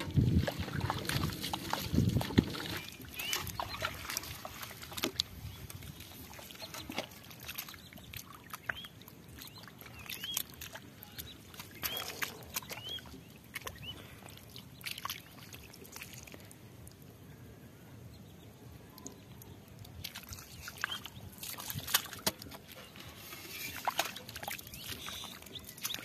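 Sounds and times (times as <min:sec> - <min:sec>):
feet squelching in mud: 0:00.0 - 0:16.6, 0:19.8 - 0:26.0.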